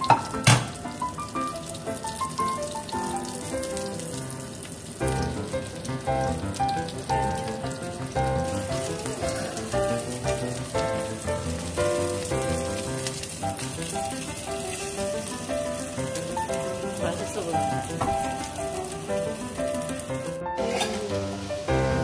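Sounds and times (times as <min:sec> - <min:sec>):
background music with melody: 0:00.0 - 0:22.0
chicken sizzling in frying pan: 0:00.0 - 0:22.0.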